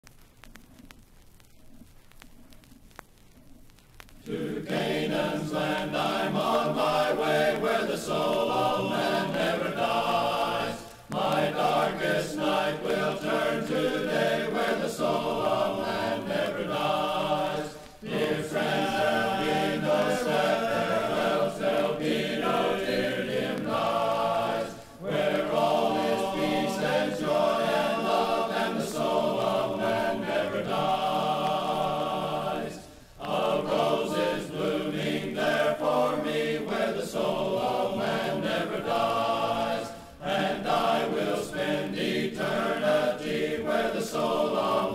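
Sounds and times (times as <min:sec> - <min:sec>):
men's chorus singing a hymn: 0:04.3 - 0:44.9.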